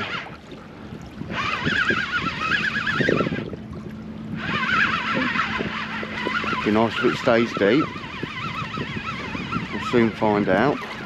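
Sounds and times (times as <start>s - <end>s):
fishing reel whine: 0.0s - 0.4s, 1.2s - 3.6s, 4.3s - 11.0s.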